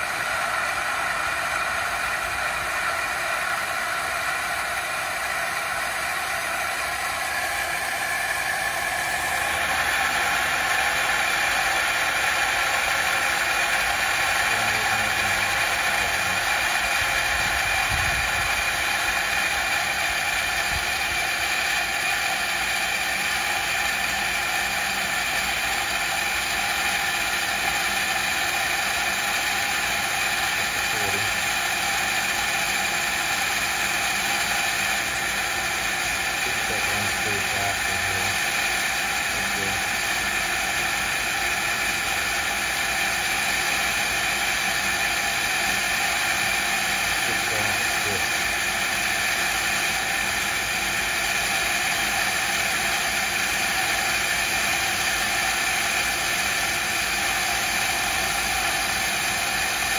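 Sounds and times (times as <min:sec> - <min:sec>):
water pump motor whining: 0:00.0 - 0:59.9.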